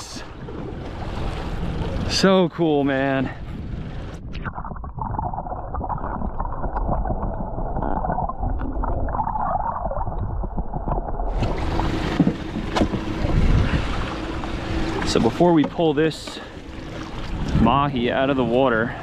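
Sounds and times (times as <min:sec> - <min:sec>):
muffled underwater sloshing: 0:00.0 - 0:19.0
wind: 0:00.0 - 0:19.0
steady low hum: 0:00.1 - 0:19.0.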